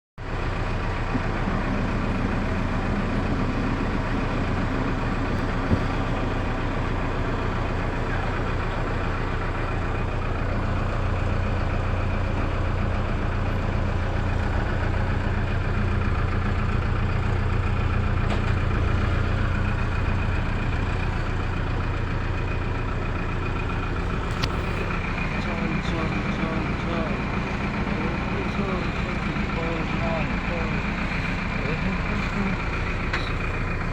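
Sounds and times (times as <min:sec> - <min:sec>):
diesel engine droning: 0:00.2 - 0:33.9.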